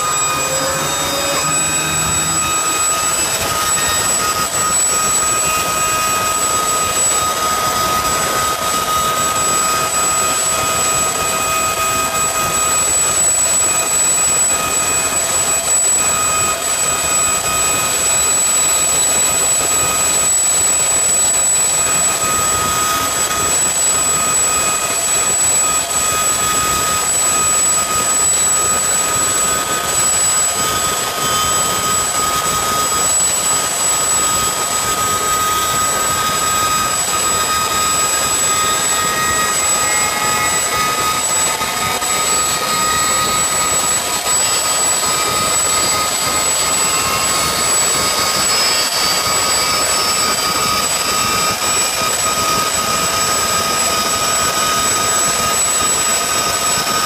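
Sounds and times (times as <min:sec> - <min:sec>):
helicopter engines and rotors roaring: 0:00.0 - 0:57.0
high-pitched turbine whine: 0:00.0 - 0:57.0.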